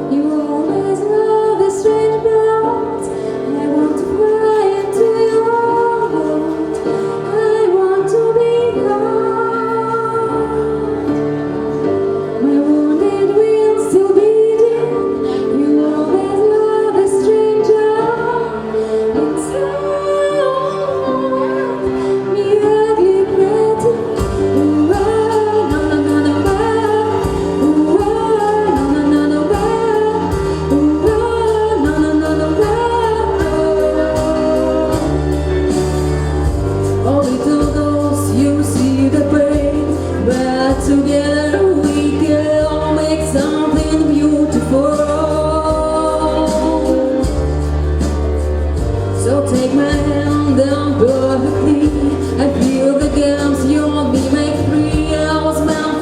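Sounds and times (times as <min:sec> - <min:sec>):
instrumental accompaniment: 0:00.0 - 0:56.0
woman singing slow melody: 0:00.0 - 0:56.0.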